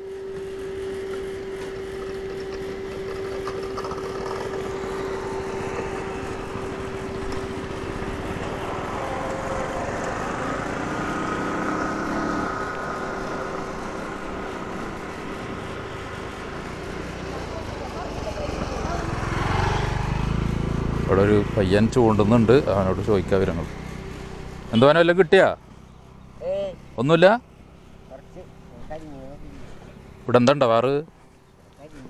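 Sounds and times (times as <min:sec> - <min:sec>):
motorcycle engine running: 0:00.0 - 0:32.0
steady hum: 0:00.0 - 0:32.0
wind and road noise: 0:00.0 - 0:32.0.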